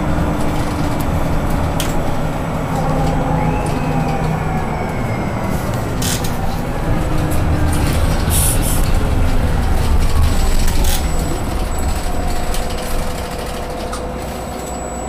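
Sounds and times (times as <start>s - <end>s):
bus engine rumble with whine: 0.0s - 15.0s.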